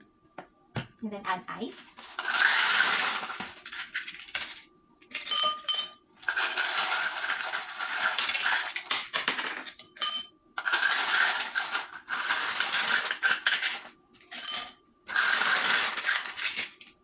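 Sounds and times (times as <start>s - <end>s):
ice cubes clinking into glass: 2.1s - 16.8s.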